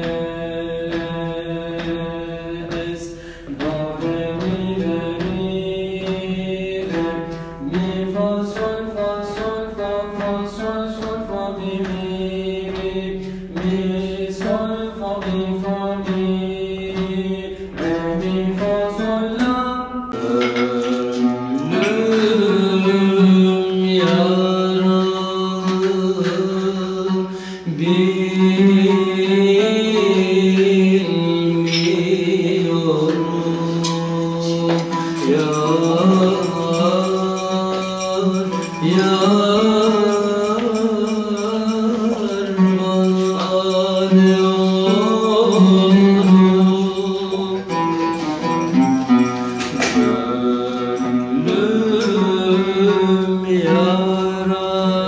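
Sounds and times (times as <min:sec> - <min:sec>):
instrumental accompaniment: 0:00.0 - 0:55.0
man singing: 0:00.0 - 0:55.0.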